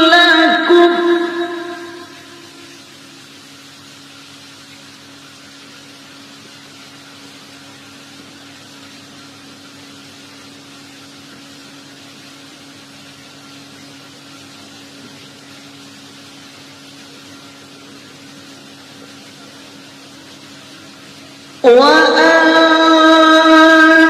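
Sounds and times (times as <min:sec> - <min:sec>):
even hiss: 0:00.0 - 0:24.0
steady hum: 0:00.0 - 0:24.0.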